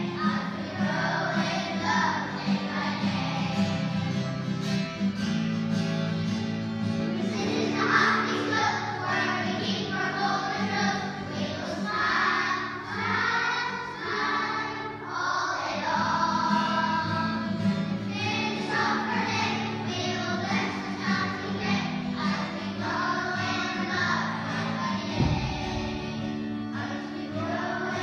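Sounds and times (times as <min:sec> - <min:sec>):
children singing together: 0:00.0 - 0:04.6, 0:07.0 - 0:28.0.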